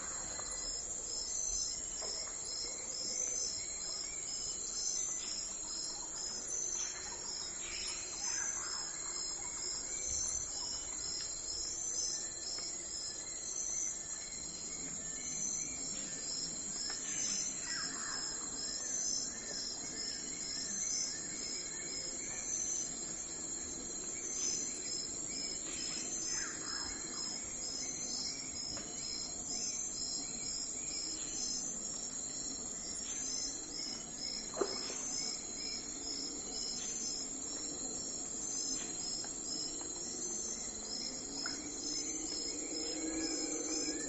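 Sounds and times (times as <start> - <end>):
insect chorus chirping: 0.0 - 44.0.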